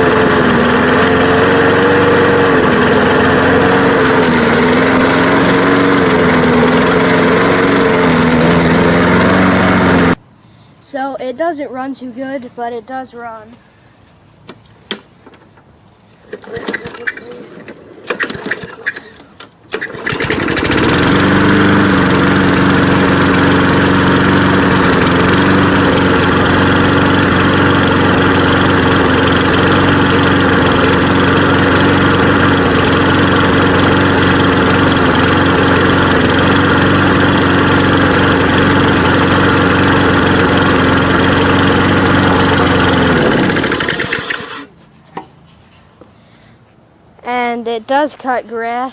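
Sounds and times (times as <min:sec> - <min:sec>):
lawn mower engine running: 0:00.0 - 0:10.2, 0:16.2 - 0:45.6.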